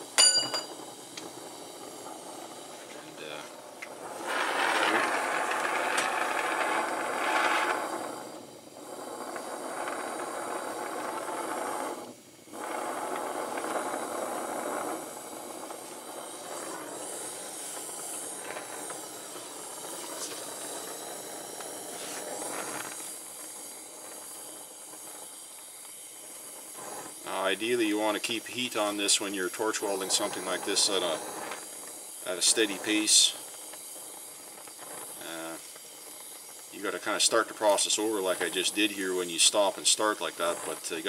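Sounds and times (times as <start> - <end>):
torch flame hissing: 0.0 - 41.0.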